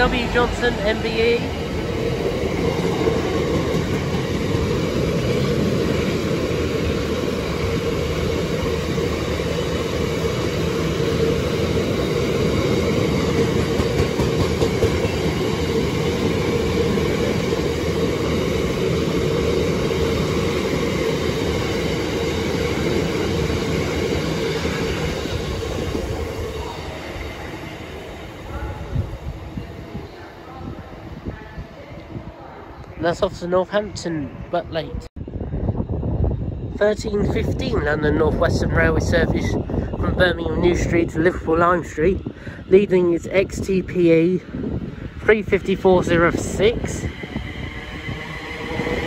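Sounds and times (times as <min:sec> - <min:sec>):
freight train rumbling and clattering: 0:00.0 - 0:49.0.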